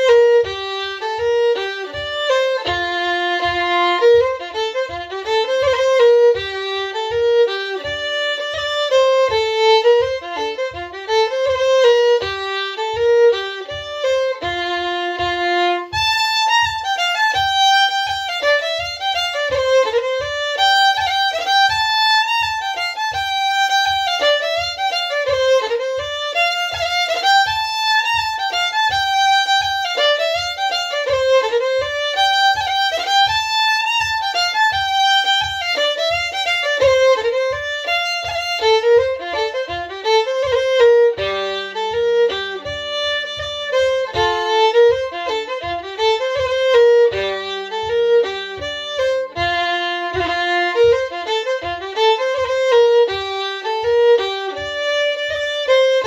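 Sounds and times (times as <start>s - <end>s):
fiddle playing lively melody: 0.0s - 56.0s
low thump on the beat: 0.0s - 56.0s.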